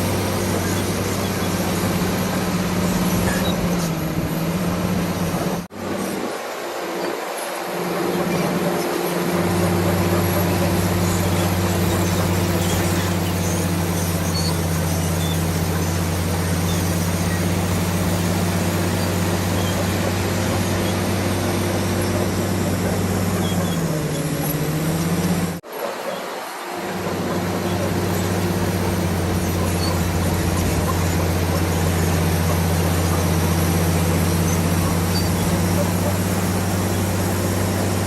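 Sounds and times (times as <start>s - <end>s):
bulldozer diesel engine running: 0.0s - 38.0s.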